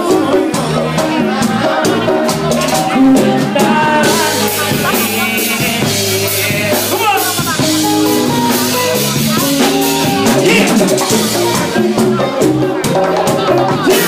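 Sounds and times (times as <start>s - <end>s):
drum kit beat: 0.0s - 14.0s
electric bass: 0.0s - 14.0s
live band playing: 0.0s - 14.0s.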